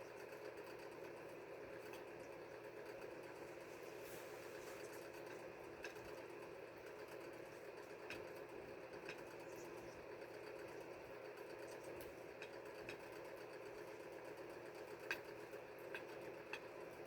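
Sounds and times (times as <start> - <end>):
quiet motor hum: 0.0 - 17.0
chickens pecking on a plate: 0.1 - 17.0.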